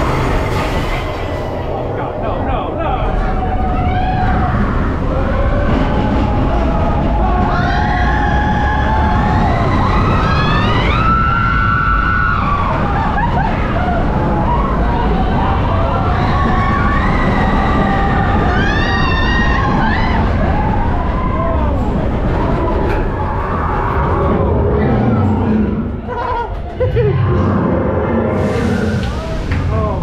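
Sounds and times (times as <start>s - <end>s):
riders screaming and yelling: 0.0s - 27.1s
roller coaster rumbling on track: 0.0s - 30.0s.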